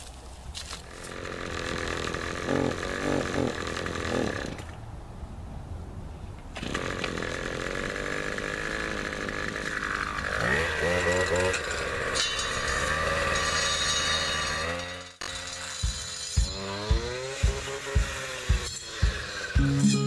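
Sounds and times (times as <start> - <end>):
brush cutter engine idling: 0.0 - 4.7, 6.6 - 20.0.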